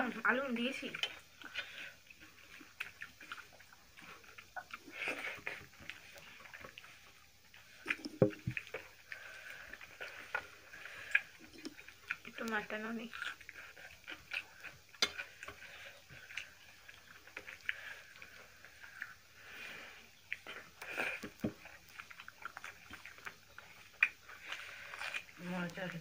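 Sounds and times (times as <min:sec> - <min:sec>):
chewing and mouth smacks: 0:00.8 - 0:26.0.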